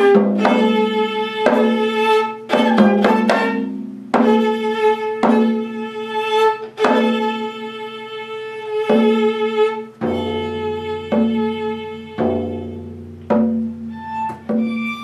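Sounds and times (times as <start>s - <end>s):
drums playing: 0.0s - 5.9s, 8.9s - 15.0s
viola notes: 0.0s - 15.0s.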